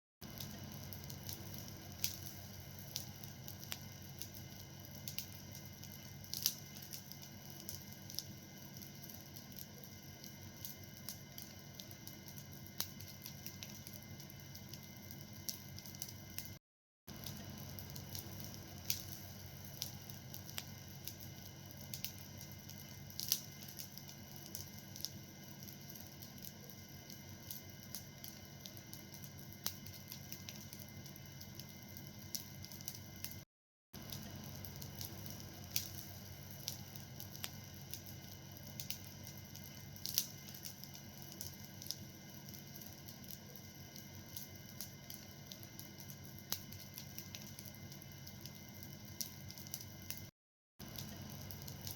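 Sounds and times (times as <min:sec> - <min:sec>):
fire crackling and popping: 0:00.2 - 0:33.4, 0:34.0 - 0:51.9.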